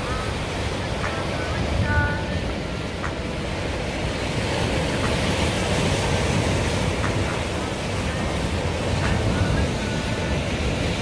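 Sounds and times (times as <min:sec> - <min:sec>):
waves breaking over rocks: 0:00.0 - 0:11.0
wind rumble on microphone: 0:00.0 - 0:11.0.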